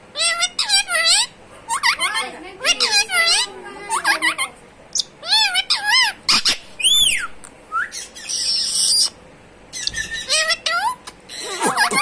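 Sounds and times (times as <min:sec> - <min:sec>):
parakeet chirps and squawks: 0:00.1 - 0:07.3, 0:07.9 - 0:12.0.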